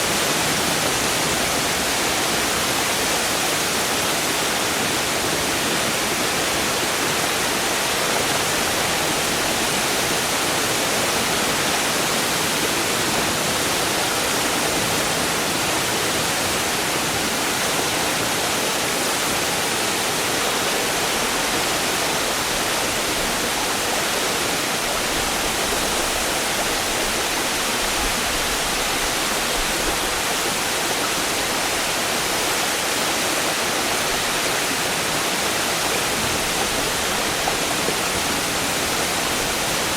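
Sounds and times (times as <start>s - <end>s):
waterfall hissing and splashing: 0.0s - 39.9s.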